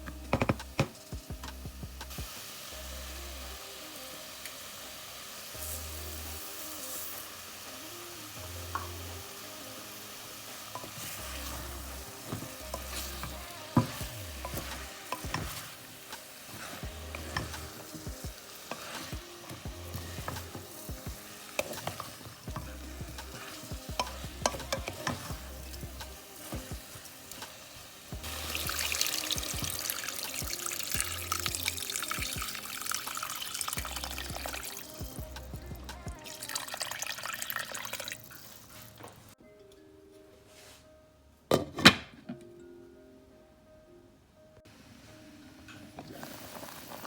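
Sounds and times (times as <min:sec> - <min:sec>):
food sizzling in a pot: 0:00.0 - 0:39.4, 0:44.7 - 0:47.0.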